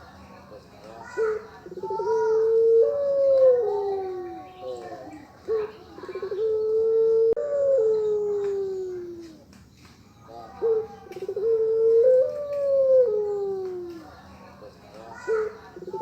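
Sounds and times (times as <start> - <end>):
dove cooing: 1.0 - 9.5, 10.3 - 14.1, 15.2 - 16.0.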